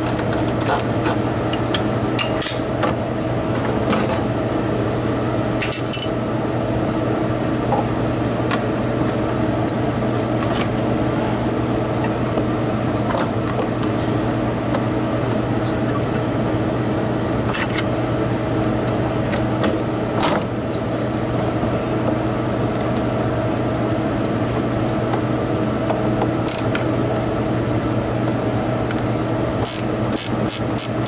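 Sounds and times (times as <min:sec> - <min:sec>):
mechanical hum of equipment: 0:00.0 - 0:31.0.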